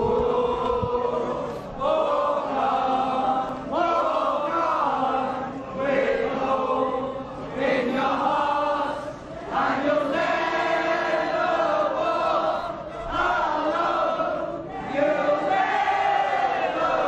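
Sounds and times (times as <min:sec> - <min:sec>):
crowd singing in unison: 0:00.0 - 0:17.0.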